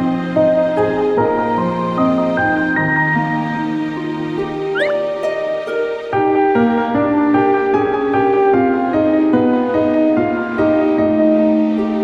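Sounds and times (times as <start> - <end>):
slow gentle instrumental music: 0.0 - 12.0.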